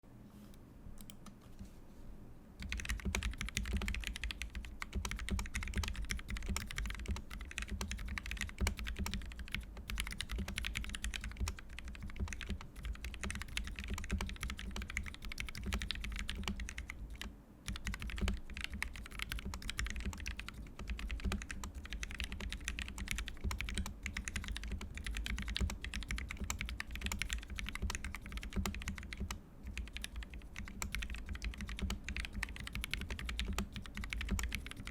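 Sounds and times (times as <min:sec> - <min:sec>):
mechanical keyboard typing: 0:02.6 - 0:34.9.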